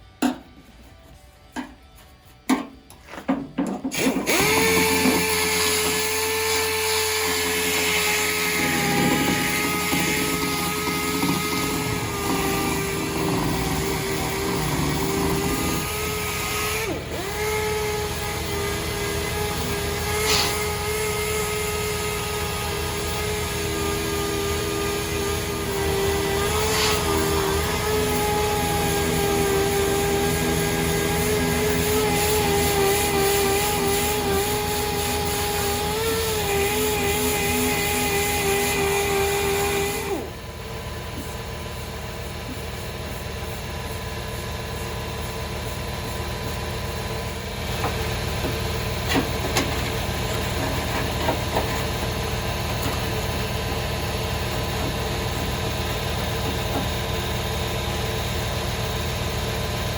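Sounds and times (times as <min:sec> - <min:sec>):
small motor humming: 0:03.9 - 0:59.9.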